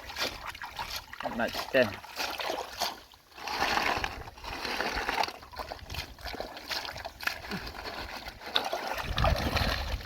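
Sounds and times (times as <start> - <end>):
muddy water splashing and sloshing: 0.0 - 10.0.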